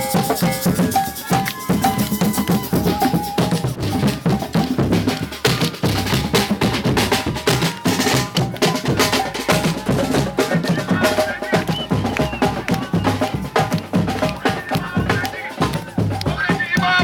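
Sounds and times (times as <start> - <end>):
music with busy drum beat: 0.0 - 17.0.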